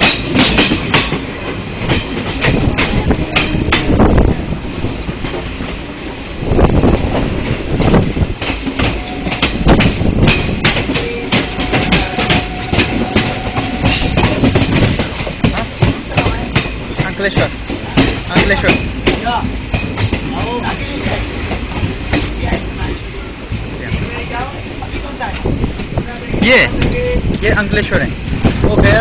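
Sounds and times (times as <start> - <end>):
train rumble: 0.0 - 29.0
wheels clattering over rail joints: 0.0 - 29.0.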